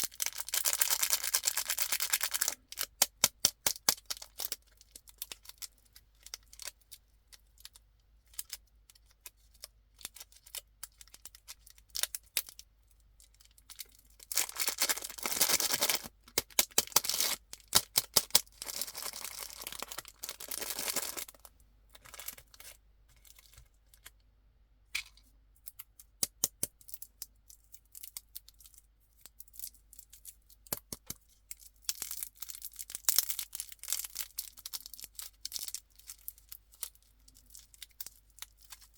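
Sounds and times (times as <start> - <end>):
candy wrapper crinkling: 0.0 - 24.2, 26.6 - 38.9.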